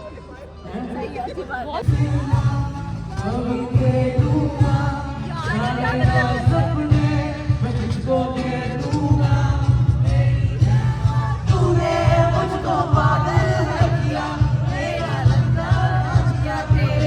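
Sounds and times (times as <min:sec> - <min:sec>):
voices singing: 0:00.6 - 0:17.0
heavy bass beat: 0:01.8 - 0:17.0.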